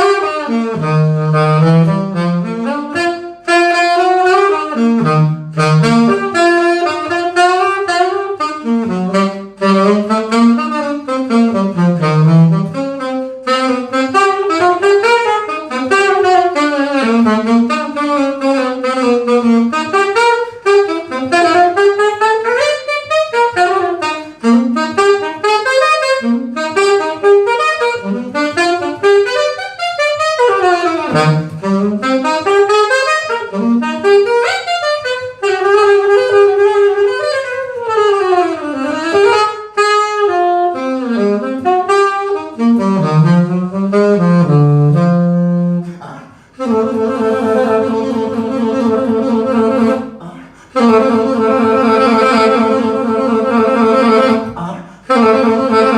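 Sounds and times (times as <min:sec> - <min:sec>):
saxophone jazz solo: 0:00.0 - 0:55.9.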